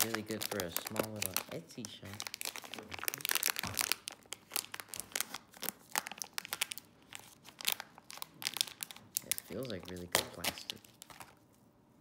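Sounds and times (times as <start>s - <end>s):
foil pouch crinkling and tearing: 0.0s - 11.4s.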